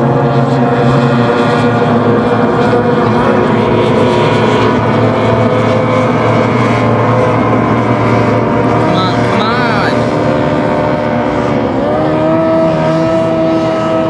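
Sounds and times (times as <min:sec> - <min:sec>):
racing boat engines droning: 0:00.0 - 0:14.0.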